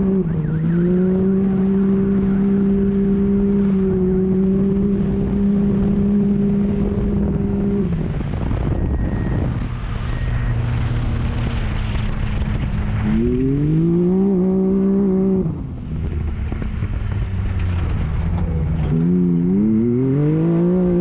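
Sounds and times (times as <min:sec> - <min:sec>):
race vehicle engine revving: 0:00.0 - 0:21.0
wind and tyre noise: 0:00.0 - 0:21.0.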